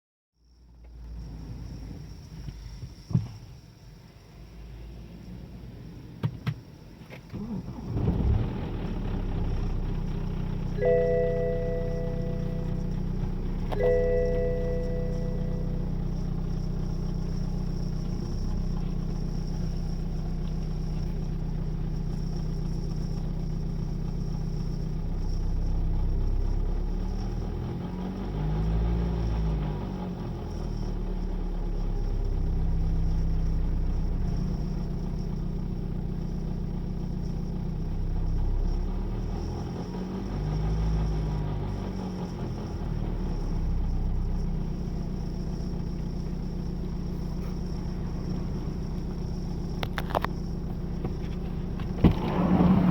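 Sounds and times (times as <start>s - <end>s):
diesel engine idling and revving: 4.0s - 52.9s.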